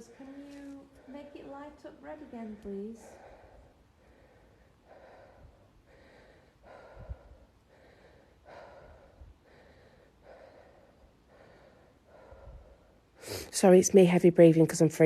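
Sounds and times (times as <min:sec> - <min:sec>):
woman breathing heavily: 0:00.0 - 0:13.6.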